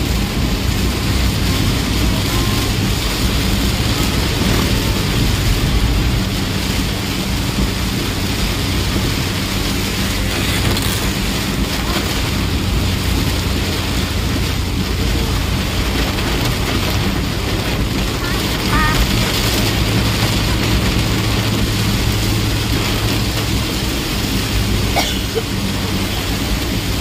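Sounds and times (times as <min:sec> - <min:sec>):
bus engine droning: 0:00.0 - 0:27.0
heavy rain on a bus: 0:00.0 - 0:27.0.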